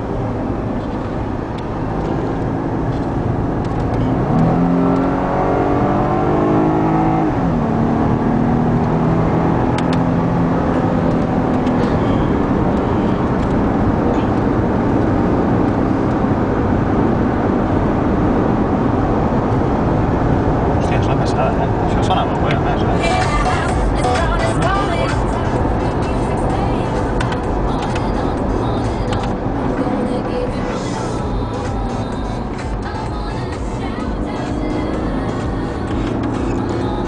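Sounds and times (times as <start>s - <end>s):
car engine revving: 0.0s - 37.0s
road and wind noise: 0.0s - 37.0s.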